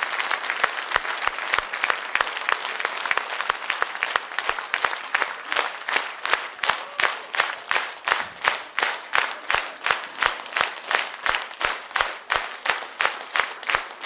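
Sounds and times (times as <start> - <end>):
audience clapping in unison: 0.0 - 14.0.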